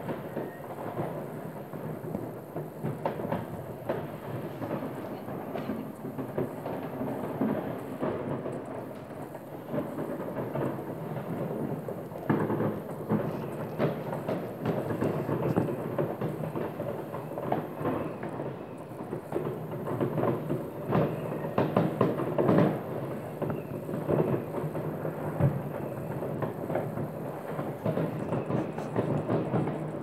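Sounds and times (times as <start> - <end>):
distant fireworks bangs: 0.0 - 30.0
fireworks crackling: 0.0 - 30.0.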